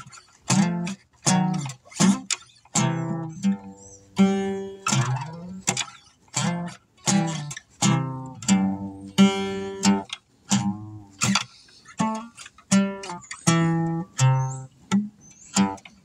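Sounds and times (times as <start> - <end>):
acoustic guitar plucked slowly: 0.0 - 16.0.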